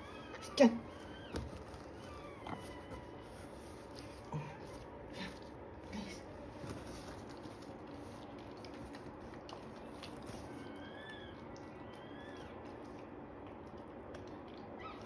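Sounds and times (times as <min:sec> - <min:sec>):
soft wet squishing: 0:00.0 - 0:15.0.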